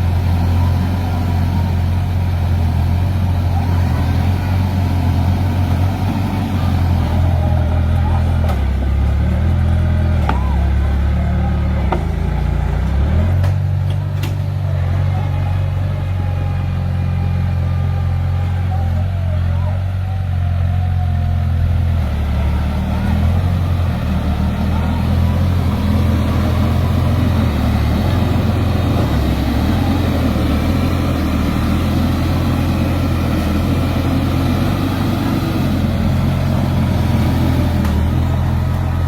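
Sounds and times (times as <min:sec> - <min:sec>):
diesel earthmoving machine engine: 0:00.0 - 0:39.0.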